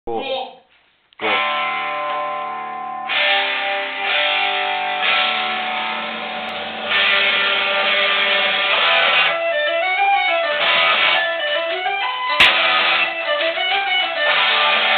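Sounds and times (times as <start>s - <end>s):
guitar-led music: 1.2s - 14.9s.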